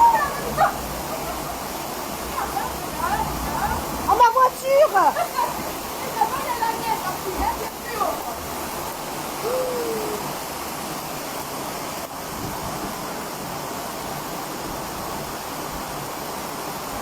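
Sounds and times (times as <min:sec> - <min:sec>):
heavy rain: 0:00.0 - 0:17.0
running floodwater: 0:00.0 - 0:17.0.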